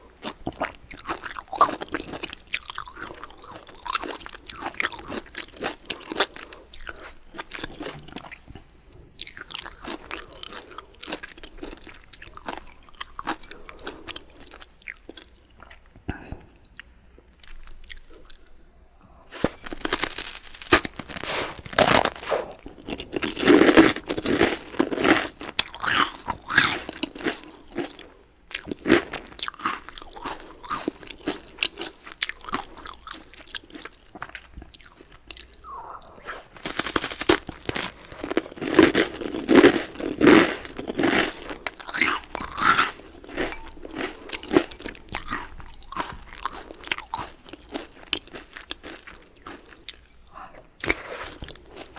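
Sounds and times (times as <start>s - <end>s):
crunching and chewing bread: 0.0s - 51.9s.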